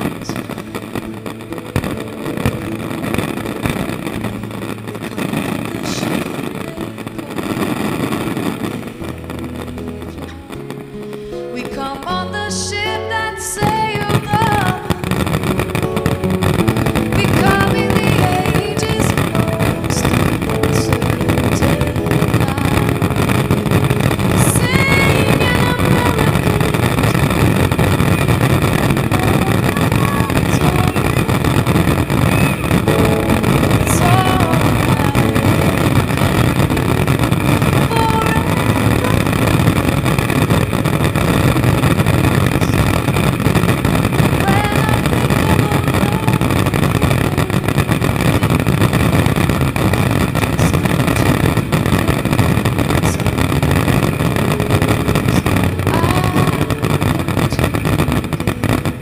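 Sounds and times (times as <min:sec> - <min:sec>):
sharp firework reports: 0:00.0 - 0:11.4, 0:13.6 - 0:59.0
fireworks booming: 0:00.0 - 0:12.6, 0:13.4 - 0:59.0.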